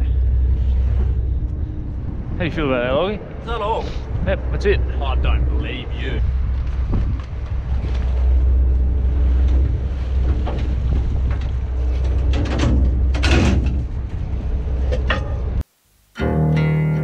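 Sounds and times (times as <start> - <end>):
boat engine humming: 0.0 - 15.6.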